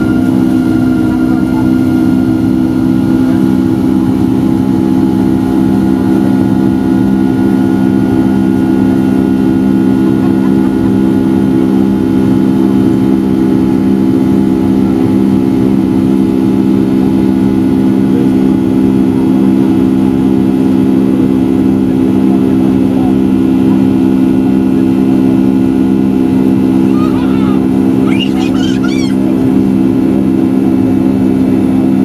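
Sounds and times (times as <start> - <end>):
jet engines droning in cabin: 0.0 - 32.0.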